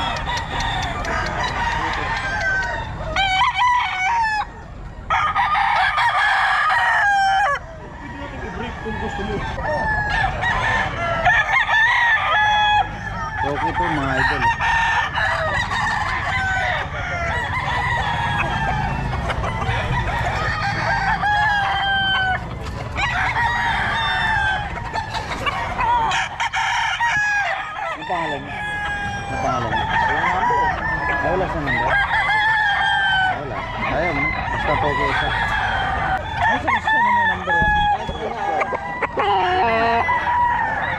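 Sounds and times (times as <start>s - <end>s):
roosters crowing: 0.0s - 40.9s.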